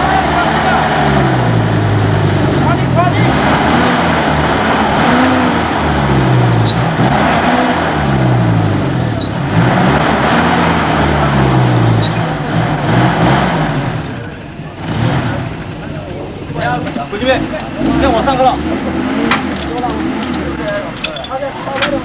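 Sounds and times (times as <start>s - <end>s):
jeep engine revving hard: 0.0s - 21.1s.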